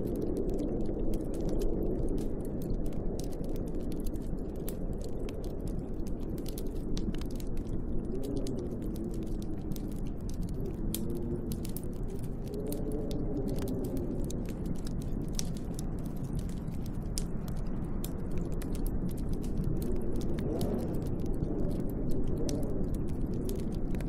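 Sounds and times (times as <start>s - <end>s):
low howling wind: 0.0s - 24.0s
wood fire crackling and popping: 0.0s - 24.0s.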